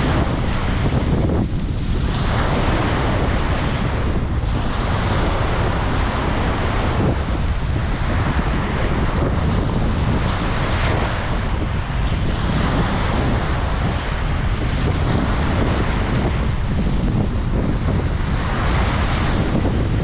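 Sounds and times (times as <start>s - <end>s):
waves breaking on a beach: 0.0s - 20.0s
wind buffeting the microphone: 0.0s - 20.0s.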